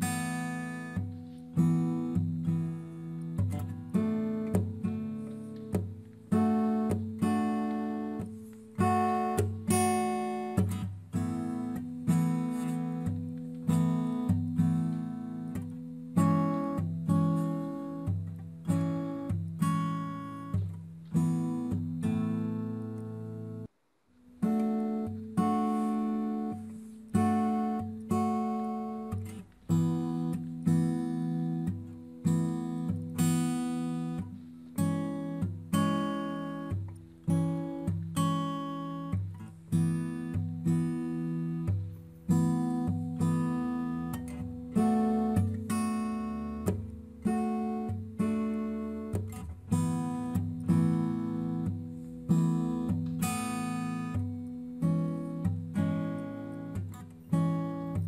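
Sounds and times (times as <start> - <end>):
acoustic guitar music: 0.0 - 58.0.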